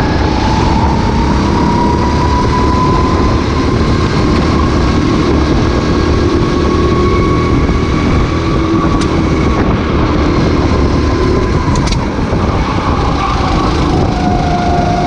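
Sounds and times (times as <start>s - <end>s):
racing kart engine at high revs: 0.0s - 15.0s.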